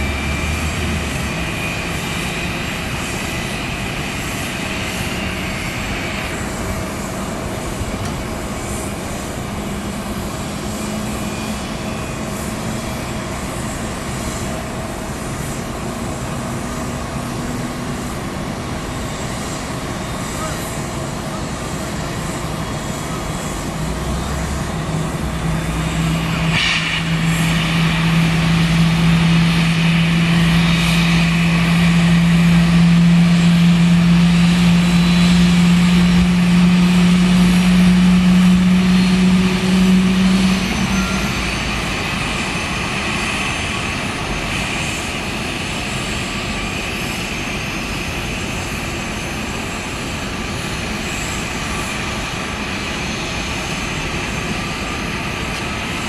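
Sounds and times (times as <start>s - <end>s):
aircraft drone: 0.0s - 56.0s.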